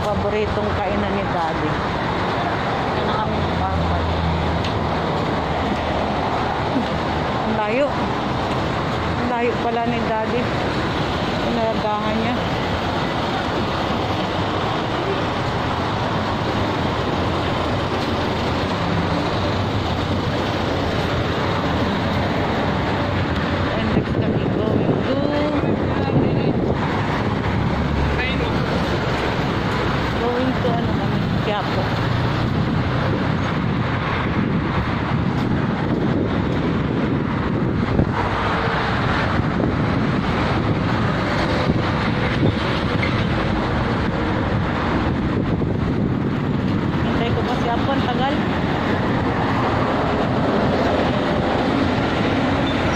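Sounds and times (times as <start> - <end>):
expressway traffic hum: 0.0 - 52.9
wind on microphone: 0.0 - 52.9.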